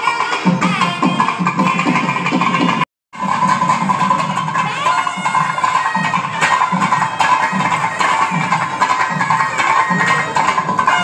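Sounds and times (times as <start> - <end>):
drums beating fast rhythm: 0.0 - 11.0.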